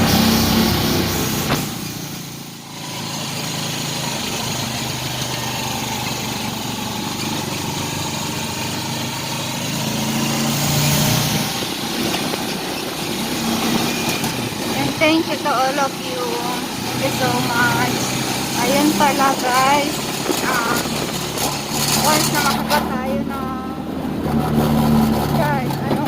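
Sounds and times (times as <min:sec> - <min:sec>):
road noise: 0:00.0 - 0:26.0
small motorcycle engine running: 0:00.0 - 0:26.0
wind: 0:00.0 - 0:26.0.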